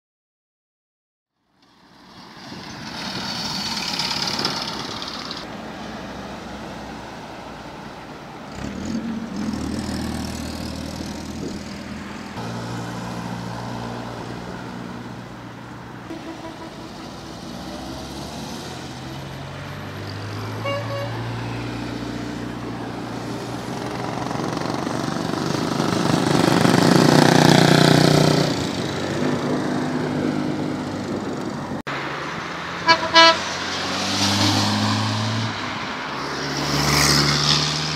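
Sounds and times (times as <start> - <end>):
cars and motorcycles passing: 1.4 - 37.9.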